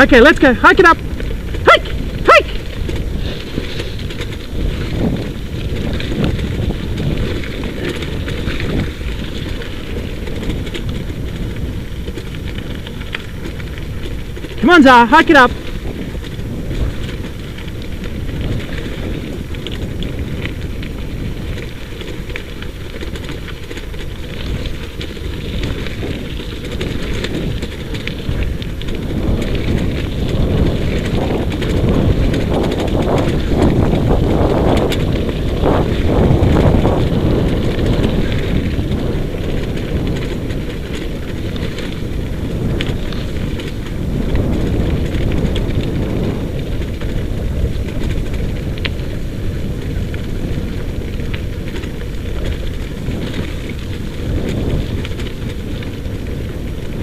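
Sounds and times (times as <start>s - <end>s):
wheels rolling over gravel: 0.0s - 57.0s
wind rushing over microphone: 0.0s - 57.0s.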